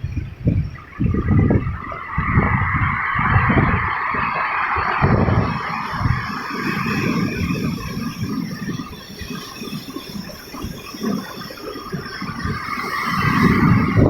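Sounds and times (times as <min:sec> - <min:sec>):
ocean surf washing on shore: 0:00.7 - 0:14.0.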